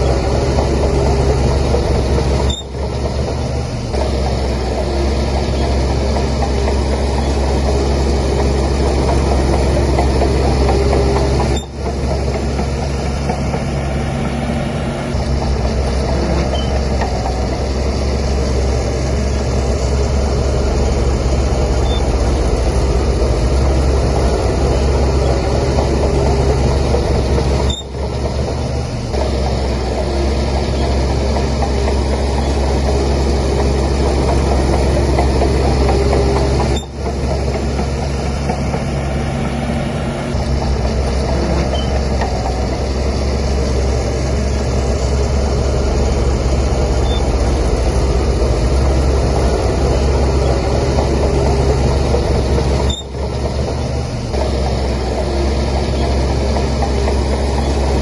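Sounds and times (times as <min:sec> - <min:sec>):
bulldozer diesel engine drone: 0:00.0 - 0:58.0.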